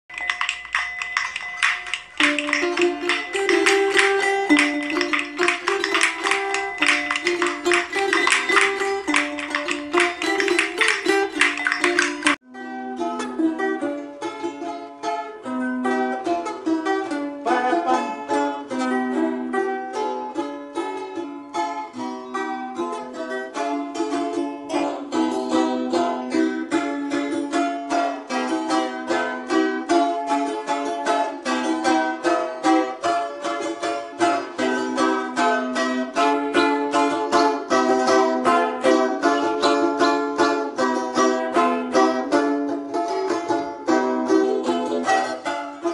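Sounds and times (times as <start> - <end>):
balalaikas plucked and strummed: 0.1 - 45.9.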